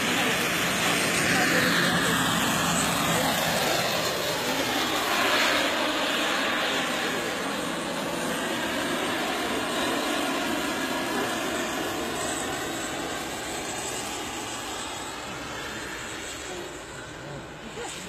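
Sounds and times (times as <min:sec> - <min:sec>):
model helicopter engine whine: 0:00.0 - 0:18.0.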